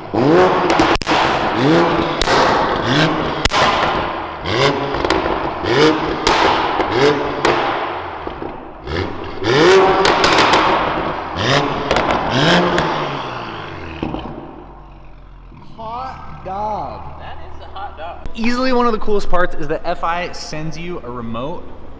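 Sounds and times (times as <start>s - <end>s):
car engine revving: 0.0s - 21.9s
exhaust cracks: 0.0s - 21.9s.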